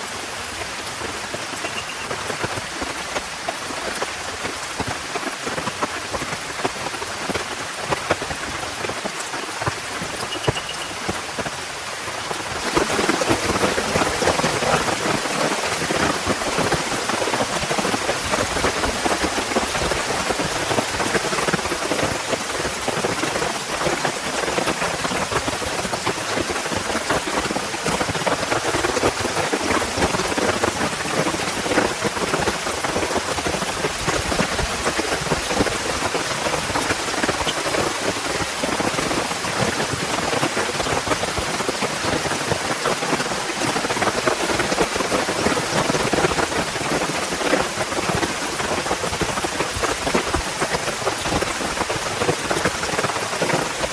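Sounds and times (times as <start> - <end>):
heavy rain falling: 0.0 - 53.9
raindrops pattering on a surface: 0.0 - 53.9.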